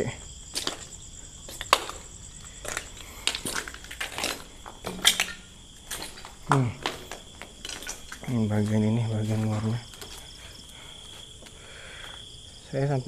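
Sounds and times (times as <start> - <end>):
crickets chirring: 0.0 - 13.0
footsteps crunching over rubble: 0.2 - 12.4.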